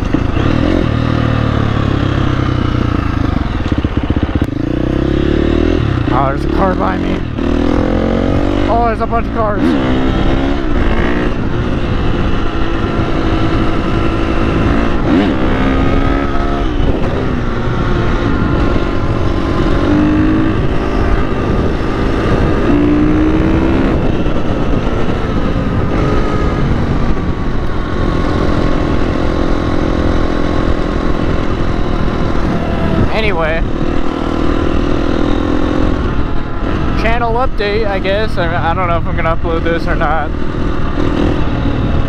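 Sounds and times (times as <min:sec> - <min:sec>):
dirt bike engine revving: 0:00.0 - 0:42.0
wind rushing on microphone: 0:00.0 - 0:42.0.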